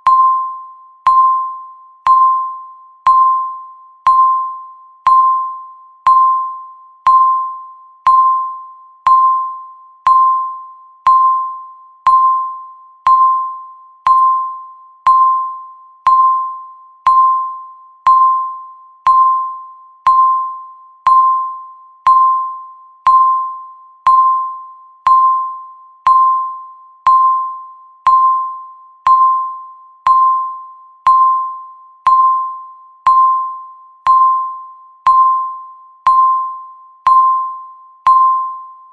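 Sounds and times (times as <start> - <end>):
bright ringing tick tone: 0.0 - 38.9.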